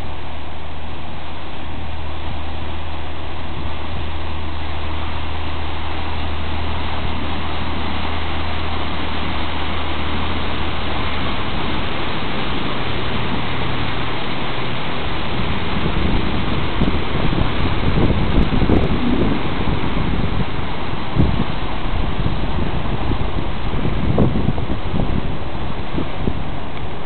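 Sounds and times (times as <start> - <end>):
boat engine droning: 0.0 - 27.0
water rushing in wake: 0.0 - 27.0.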